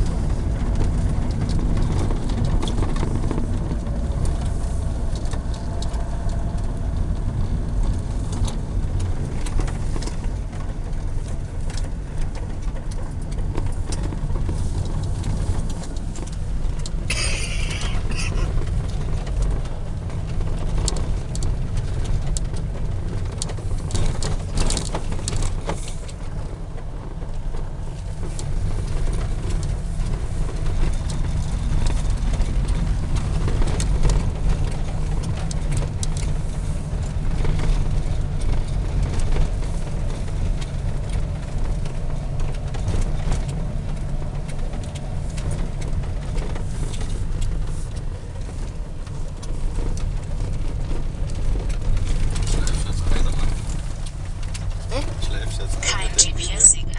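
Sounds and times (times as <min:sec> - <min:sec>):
van engine and tyres rumbling: 0:00.0 - 0:56.9.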